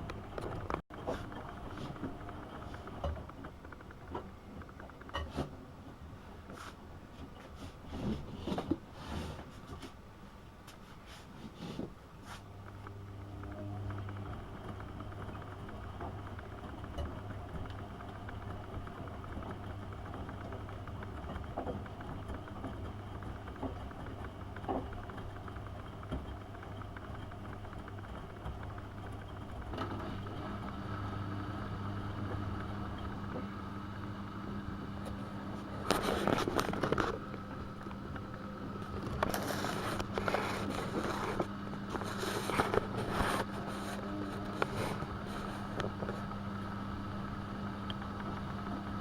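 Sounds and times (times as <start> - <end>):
washing machine humming: 0.0 - 49.0.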